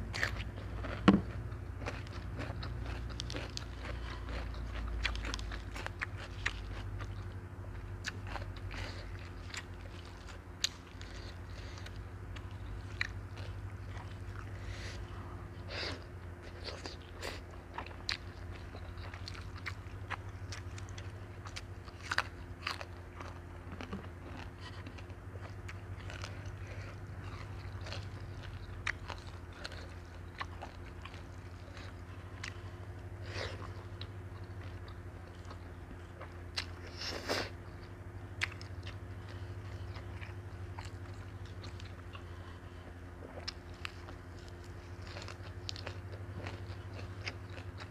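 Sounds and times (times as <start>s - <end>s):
crunching and chewing food: 0.0s - 47.9s
steady low hum: 0.0s - 47.9s.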